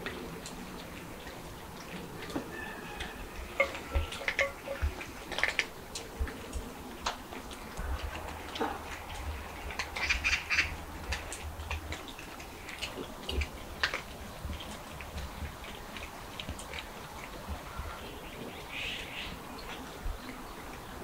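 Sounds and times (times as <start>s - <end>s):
cats crunching dry kibble: 0.0s - 21.0s.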